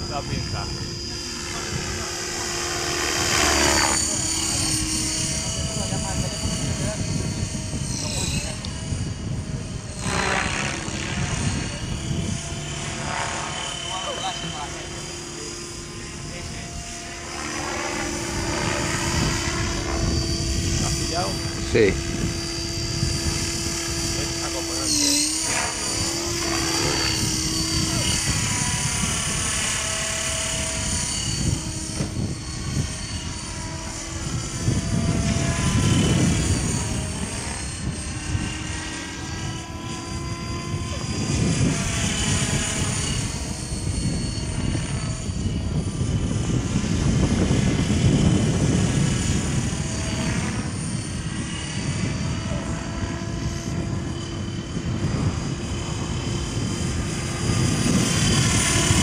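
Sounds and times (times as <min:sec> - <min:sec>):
model helicopter rotor whine: 0:00.0 - 0:59.0.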